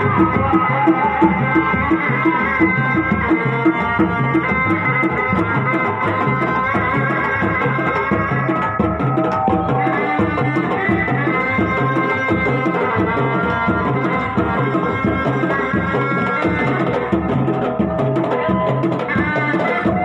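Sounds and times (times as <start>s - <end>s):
fast drum rhythm: 0.0s - 20.0s
shawm melody: 0.0s - 20.0s.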